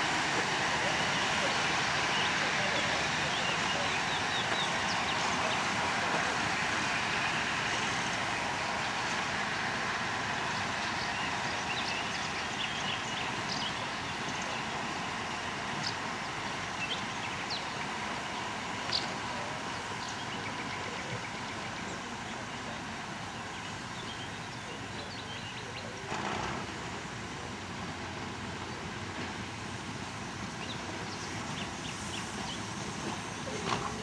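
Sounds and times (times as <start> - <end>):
diesel locomotive running: 0.0 - 34.0.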